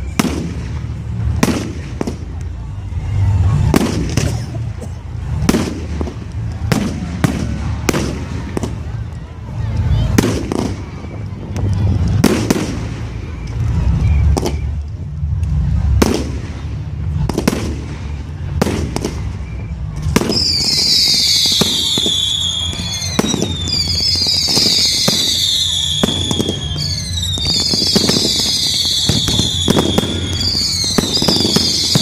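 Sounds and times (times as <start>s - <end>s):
fireworks bangs: 0.0s - 32.0s
whistling fireworks: 0.0s - 32.0s.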